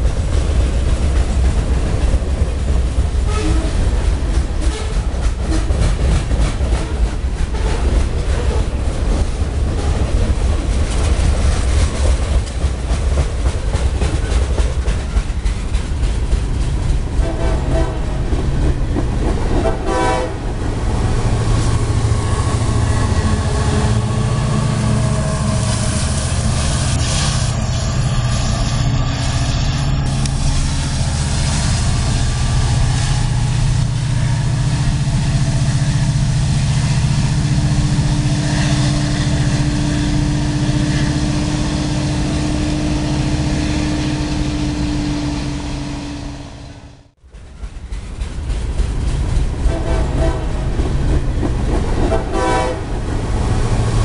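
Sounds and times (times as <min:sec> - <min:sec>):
train wheels clattering: 0:00.0 - 0:41.6, 0:47.2 - 0:54.0
locomotive rumble: 0:00.0 - 0:54.0.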